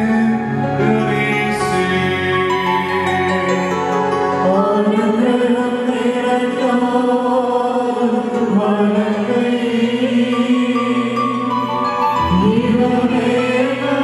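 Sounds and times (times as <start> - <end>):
person singing a hymn: 0.0 - 14.0
sustained keyboard chords: 0.0 - 14.0.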